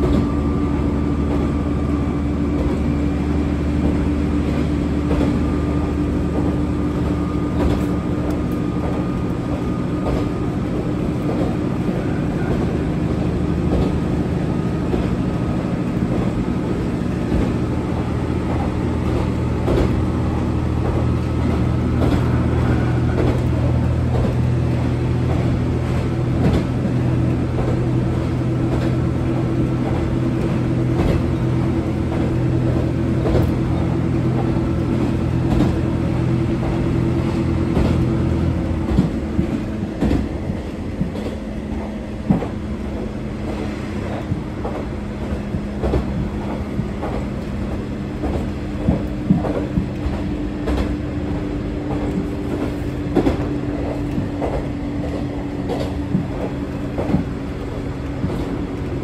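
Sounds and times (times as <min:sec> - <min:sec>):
diesel railcar engine drone: 0:00.0 - 0:59.0.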